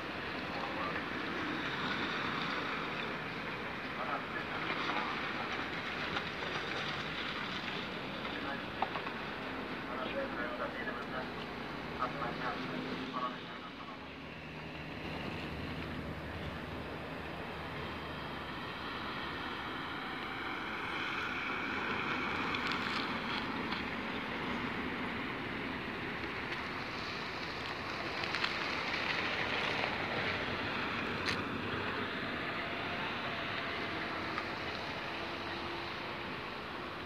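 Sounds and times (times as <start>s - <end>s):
cars driving past: 0.0s - 37.0s
steady traffic hum: 0.0s - 37.0s.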